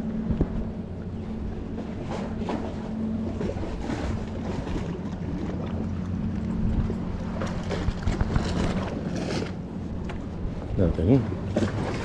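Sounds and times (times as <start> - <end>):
wind on microphone: 0.0 - 5.5, 6.4 - 12.0
low motor hum: 0.0 - 12.0.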